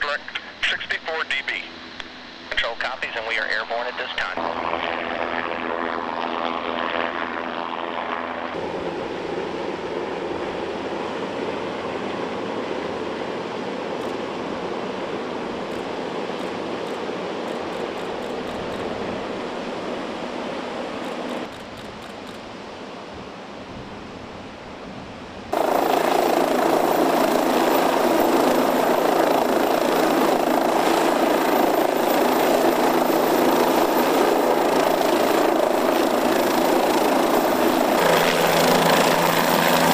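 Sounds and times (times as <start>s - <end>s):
helicopter rotor and turbine: 0.0s - 23.0s, 25.5s - 39.9s.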